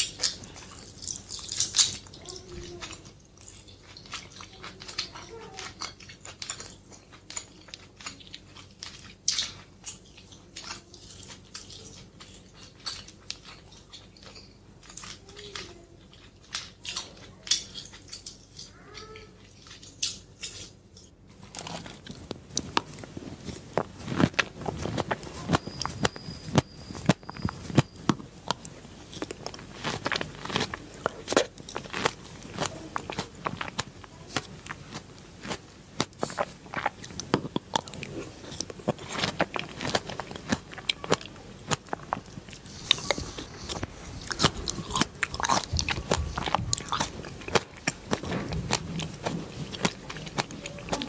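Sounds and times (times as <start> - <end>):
crunchy chewing: 0.0 - 51.0.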